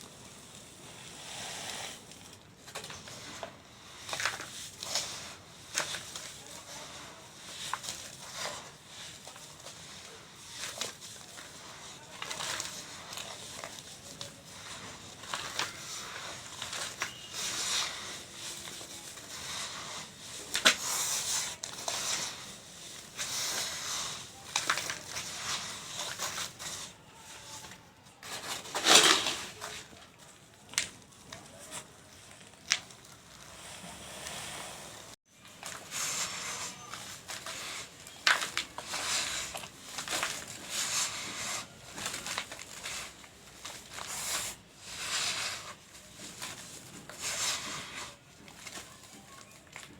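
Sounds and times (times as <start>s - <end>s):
dry cement mix pouring: 0.0s - 49.9s.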